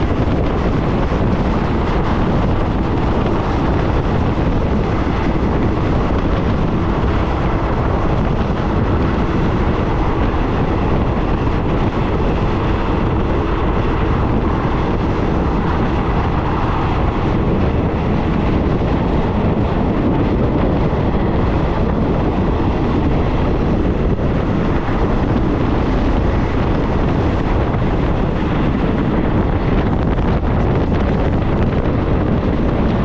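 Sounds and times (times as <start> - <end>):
train running on rails: 0.0 - 33.0
wind buffeting microphone: 0.0 - 33.0.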